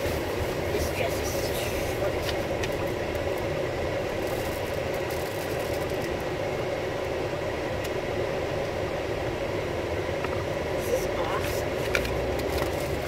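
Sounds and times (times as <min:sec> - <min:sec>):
car engine humming: 0:00.0 - 0:13.0
road noise inside car: 0:00.0 - 0:13.0.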